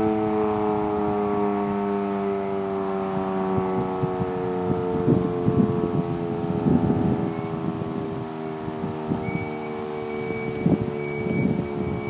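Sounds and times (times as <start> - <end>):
warning siren chord: 0.0 - 12.0
wind noise on microphone: 0.0 - 12.0.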